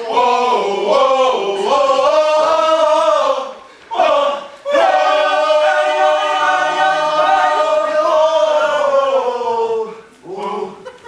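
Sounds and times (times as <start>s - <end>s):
men singing a cappella: 0.0s - 11.0s.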